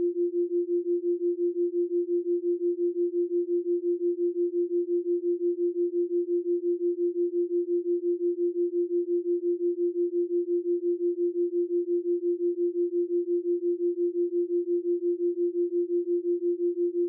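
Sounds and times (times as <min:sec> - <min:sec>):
pulsing sine-wave tone: 0:00.0 - 0:17.0.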